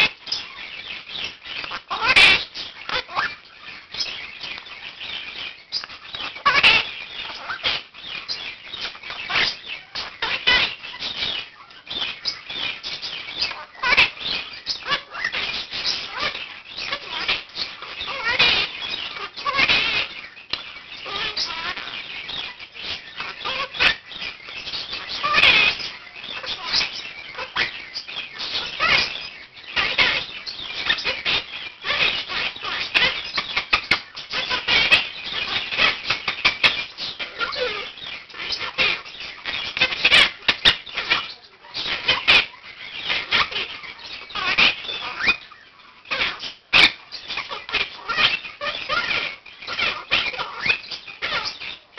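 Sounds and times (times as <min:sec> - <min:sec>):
parrots chattering and squawking: 0:00.0 - 0:51.9.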